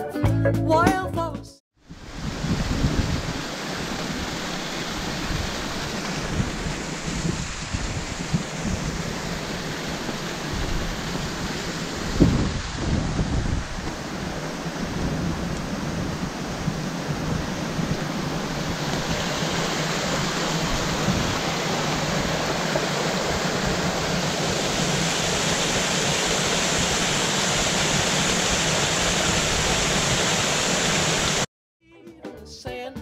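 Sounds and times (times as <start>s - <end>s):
water splashing over boulders: 1.9s - 31.5s.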